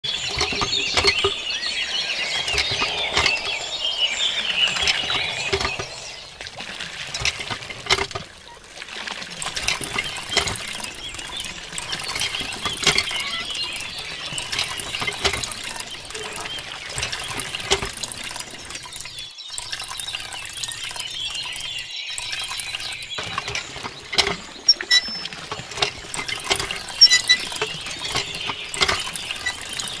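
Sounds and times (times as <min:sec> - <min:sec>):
water trickling into plastic basin: 0:00.0 - 0:04.0, 0:04.6 - 0:30.0
small drips and plops: 0:04.8 - 0:30.0.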